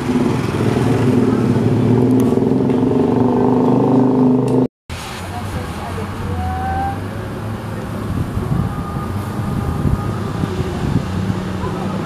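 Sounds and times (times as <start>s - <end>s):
passing cars and motorbikes: 0.0s - 12.0s.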